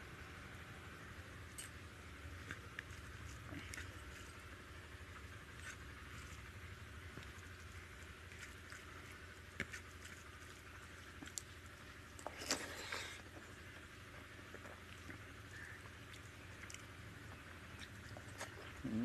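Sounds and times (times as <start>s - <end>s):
steady low hum: 0.0s - 19.0s
wet squishing of food: 1.4s - 19.0s.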